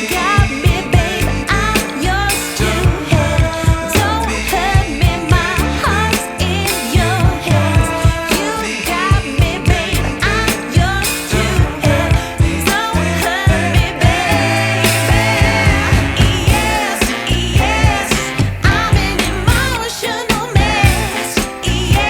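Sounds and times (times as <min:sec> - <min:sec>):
pop song with singing: 0:00.0 - 0:22.0.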